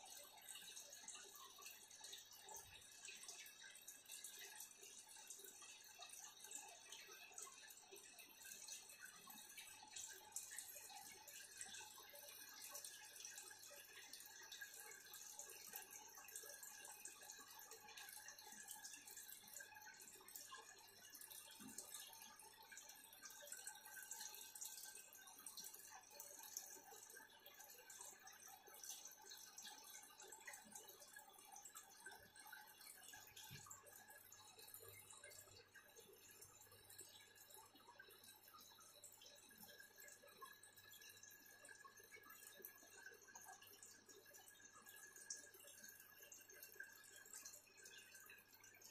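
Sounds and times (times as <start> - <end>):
water trickling and dripping: 0.0 - 48.9.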